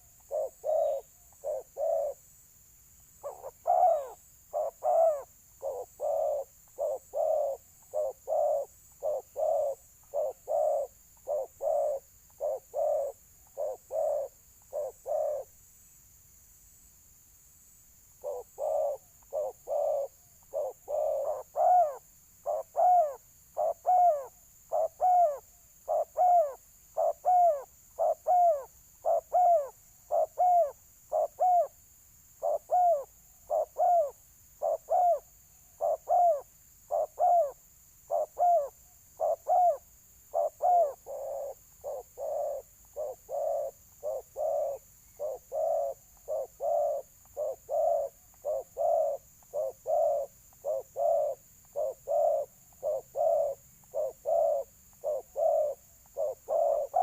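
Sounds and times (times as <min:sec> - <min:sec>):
dove cooing rapidly: 0:00.0 - 0:02.2, 0:03.2 - 0:15.5, 0:18.2 - 0:31.8, 0:32.4 - 0:57.0.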